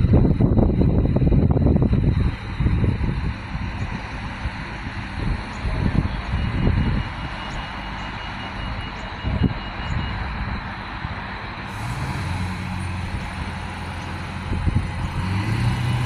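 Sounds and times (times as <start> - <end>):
diesel engine humming: 0.0 - 16.0
low engine note: 0.0 - 16.0.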